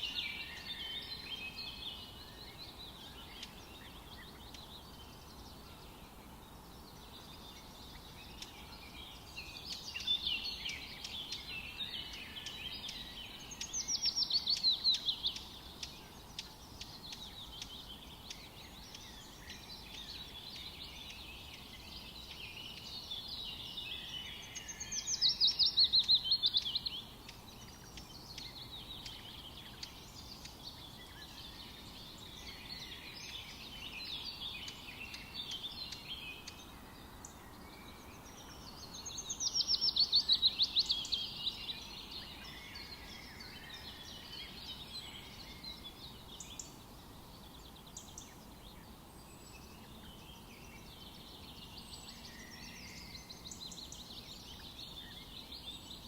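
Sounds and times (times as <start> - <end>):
forest birds singing: 0.0 - 56.0
steady background hiss: 0.0 - 56.0.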